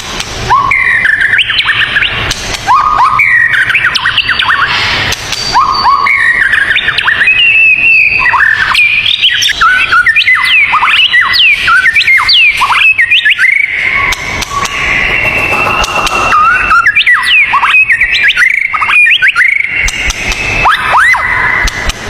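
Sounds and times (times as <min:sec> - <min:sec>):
songbird singing whistled notes: 0:00.5 - 0:21.9.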